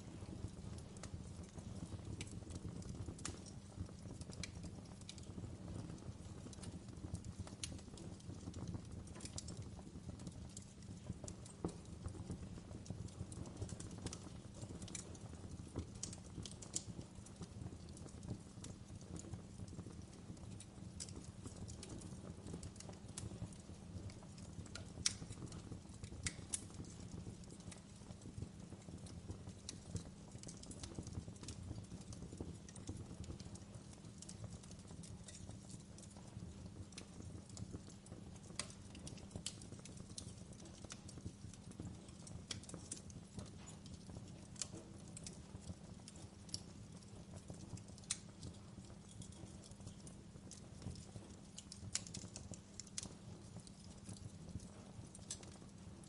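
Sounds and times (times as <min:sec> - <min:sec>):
fire low rumble: 0:00.0 - 0:56.0
wood fire snapping and popping: 0:00.0 - 0:56.0.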